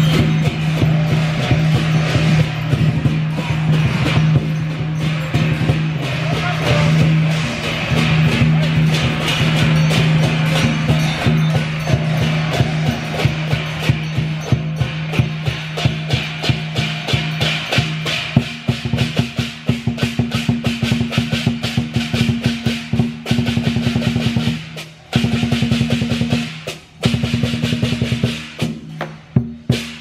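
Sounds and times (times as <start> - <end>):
cymbals clashing: 0.0 - 30.0
drum beating: 0.0 - 30.0.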